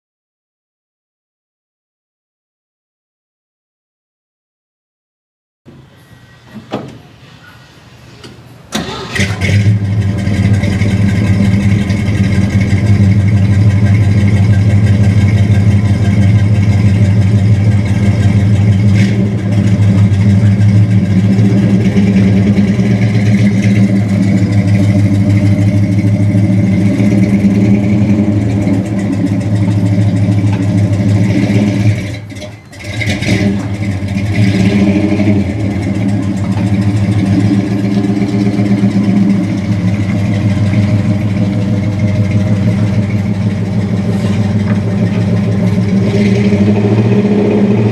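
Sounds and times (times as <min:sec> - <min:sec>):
truck engine running: 0:05.7 - 0:47.9.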